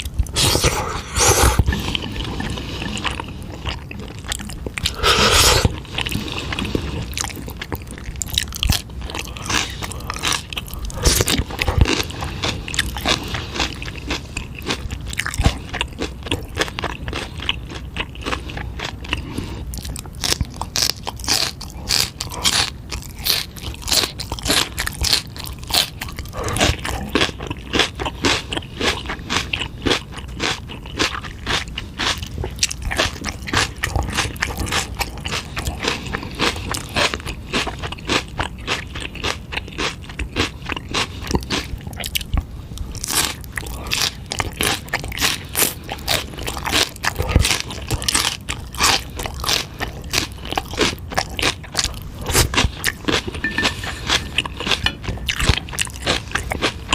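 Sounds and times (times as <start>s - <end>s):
close chewing and crunching: 0.0s - 56.9s.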